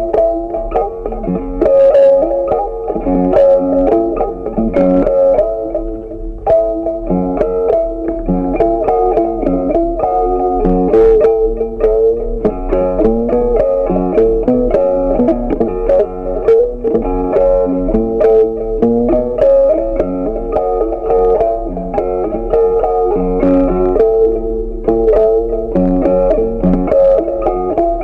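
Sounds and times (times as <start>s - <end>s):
plucked instrumental music: 0.0s - 28.0s.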